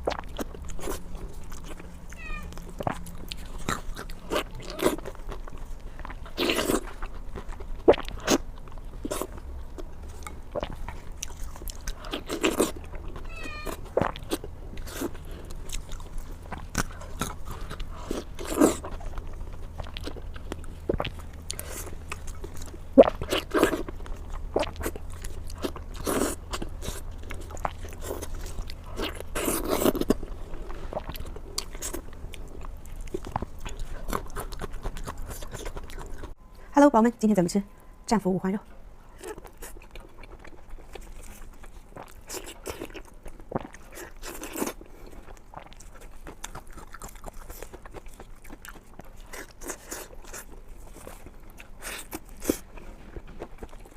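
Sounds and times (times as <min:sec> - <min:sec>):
person eating and chewing: 0:00.0 - 0:36.4, 0:39.0 - 0:53.9.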